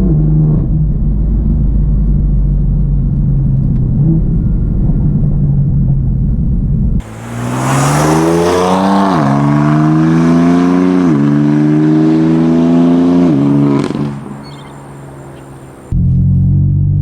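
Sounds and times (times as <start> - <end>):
car exhaust accelerating: 0.0 - 17.0.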